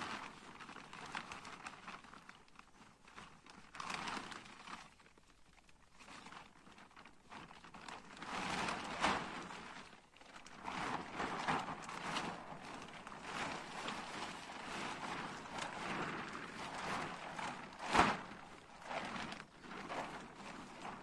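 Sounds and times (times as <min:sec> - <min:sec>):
plastic tarp rustling and crackling: 0:00.0 - 0:21.0
tarp snapping: 0:00.0 - 0:21.0.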